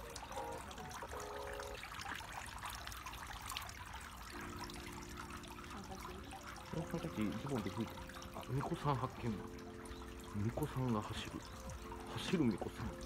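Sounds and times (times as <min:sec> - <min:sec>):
water trickling into stone basin: 0:00.0 - 0:13.0.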